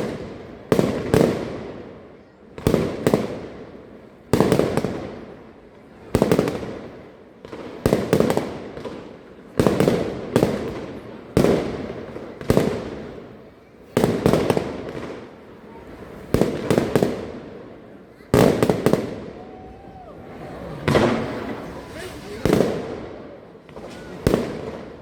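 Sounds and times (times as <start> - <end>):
fireworks bursting with bangs: 0.0 - 25.0.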